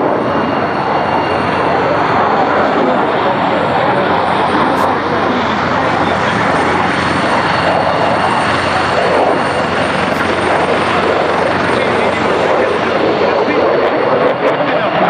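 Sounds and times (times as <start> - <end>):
fighter jet engines roaring: 0.0 - 15.0.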